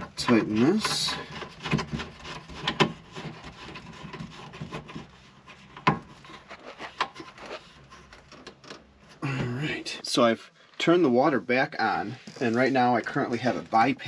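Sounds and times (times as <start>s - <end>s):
plastic threads rubbing and creaking: 0.0s - 9.8s, 11.8s - 14.0s.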